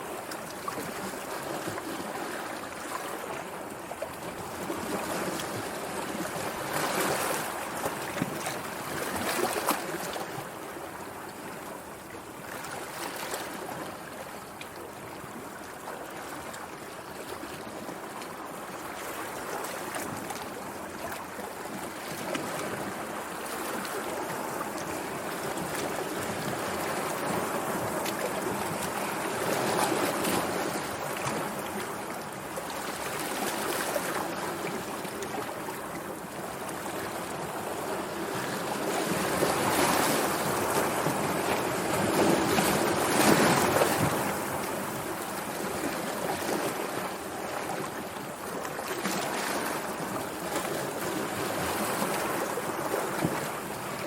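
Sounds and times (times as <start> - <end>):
sea waves washing on shore: 0.0 - 54.0.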